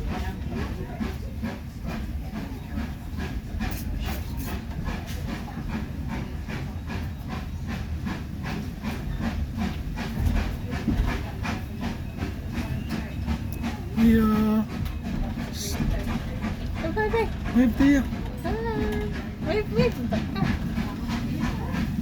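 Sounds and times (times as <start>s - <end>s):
steam train rumbling: 0.0s - 22.0s.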